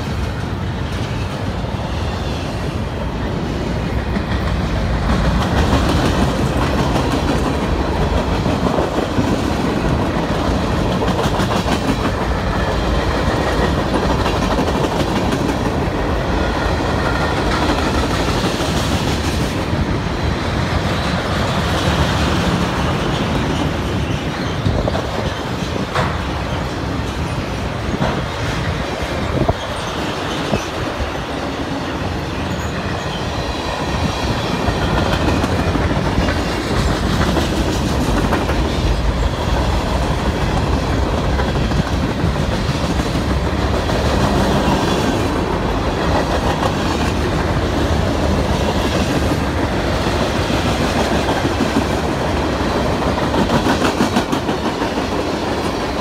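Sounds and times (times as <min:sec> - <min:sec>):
freight train rumbling: 0:00.0 - 0:56.0
wheels clacking over rail joints: 0:03.8 - 0:19.8, 0:20.6 - 0:56.0.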